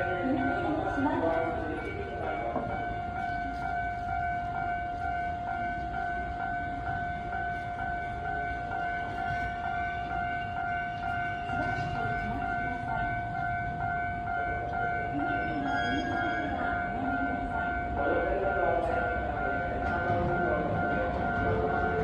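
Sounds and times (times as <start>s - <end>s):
level crossing bell ringing: 0.0s - 22.0s
train rumbling past: 0.0s - 22.0s.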